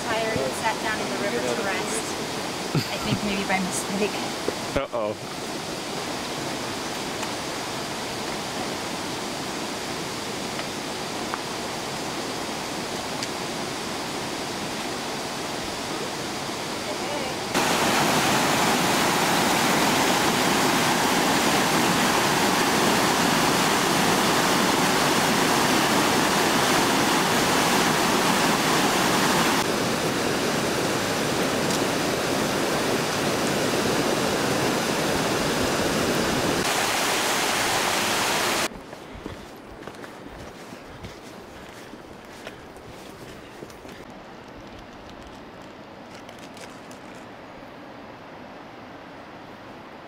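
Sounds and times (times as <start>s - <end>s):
stream rushing over boulders: 0.0s - 50.0s.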